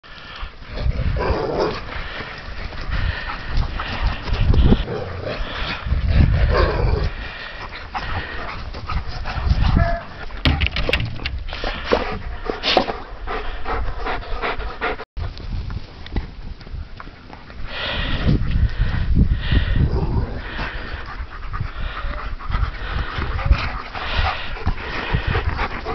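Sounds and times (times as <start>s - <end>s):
dogs panting: 0.1s - 10.4s, 11.5s - 15.4s, 17.0s - 25.9s.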